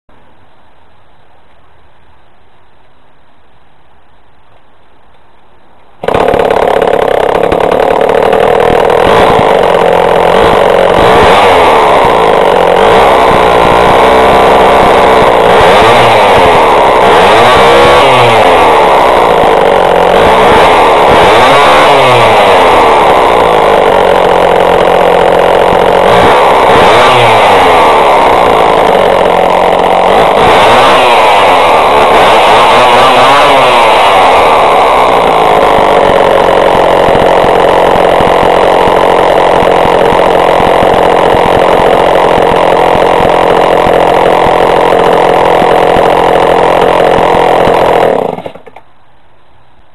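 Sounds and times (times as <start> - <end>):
chainsaw engine revving: 6.0 - 48.9.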